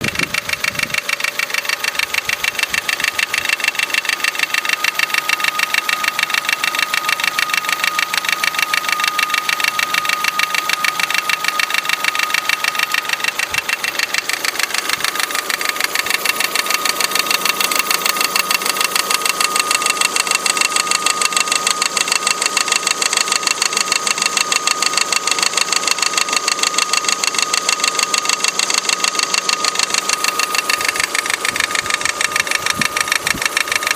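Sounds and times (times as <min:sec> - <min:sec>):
car engine idling with rattle: 0:00.0 - 0:33.9.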